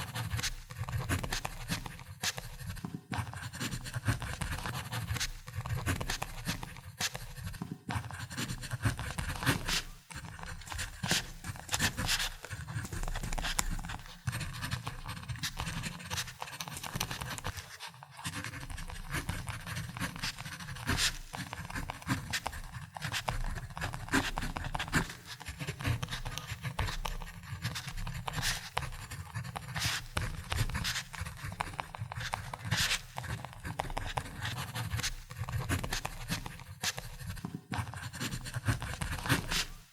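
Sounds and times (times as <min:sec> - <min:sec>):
ballpoint pen writing on paper: 0:00.0 - 0:39.9.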